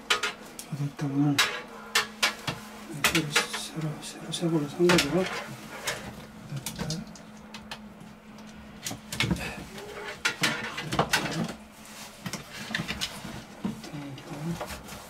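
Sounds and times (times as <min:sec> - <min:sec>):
clicks knocks and rustles of handling: 0:00.0 - 0:00.7, 0:01.3 - 0:03.9, 0:04.8 - 0:15.0.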